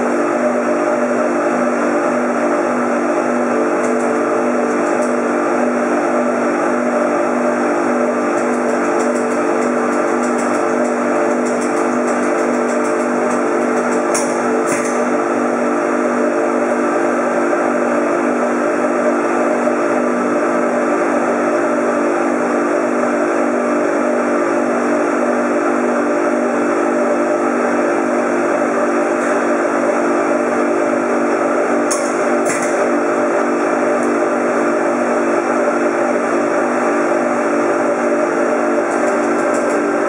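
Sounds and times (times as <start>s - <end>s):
droning hum of machinery: 0.0s - 40.0s.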